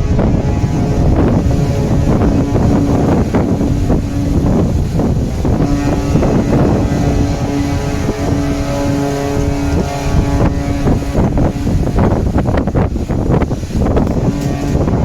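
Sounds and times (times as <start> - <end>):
low rumble: 0.0 - 15.0
steady pitched tone: 0.0 - 15.0
wind buffeting microphone: 0.0 - 15.0.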